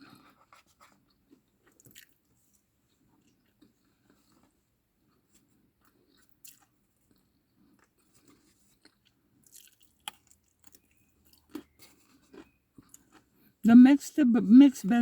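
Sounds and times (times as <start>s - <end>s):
faint chewing of food: 0.0s - 13.6s.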